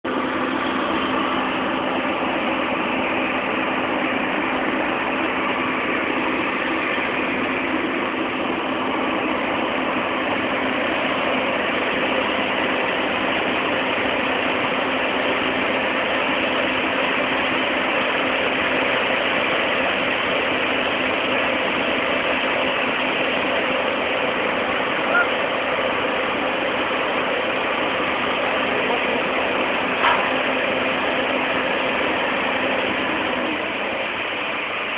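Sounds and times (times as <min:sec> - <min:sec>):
engines humming: 0:00.0 - 0:34.9.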